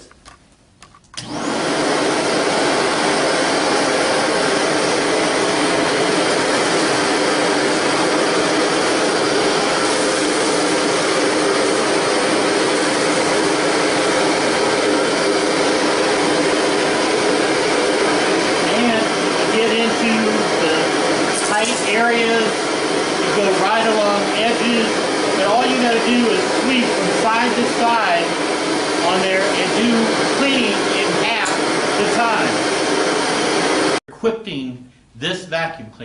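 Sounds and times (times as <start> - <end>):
vacuum cleaner running: 1.2 - 34.0.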